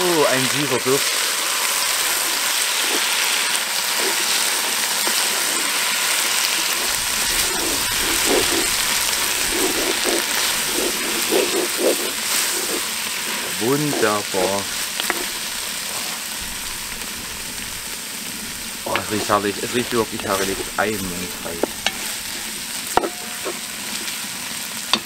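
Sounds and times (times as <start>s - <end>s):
vegetables sizzling in a pot: 0.0s - 25.0s
wooden spoon stirring: 1.9s - 17.7s, 18.8s - 24.2s.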